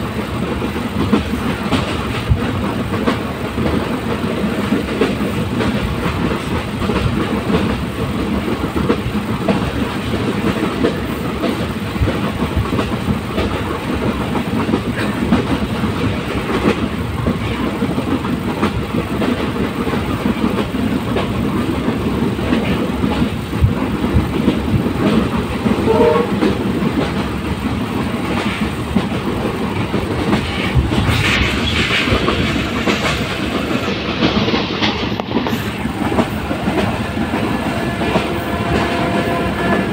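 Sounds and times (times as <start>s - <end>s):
train rumble: 0.0s - 39.9s
train wheels clattering on rails: 0.0s - 39.9s.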